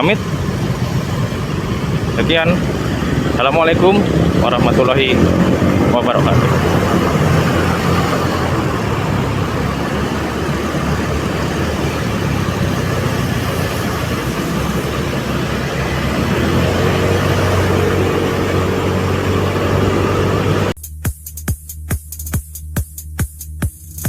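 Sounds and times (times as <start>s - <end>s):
vehicle engine and road noise: 0.0s - 20.8s.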